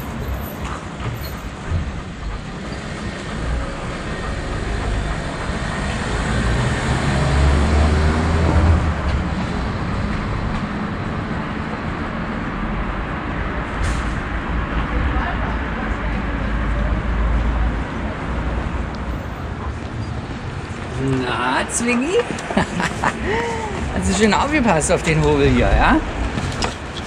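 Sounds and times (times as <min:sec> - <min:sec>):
street traffic: 0:00.0 - 0:27.0
large vehicle passing: 0:01.6 - 0:27.0.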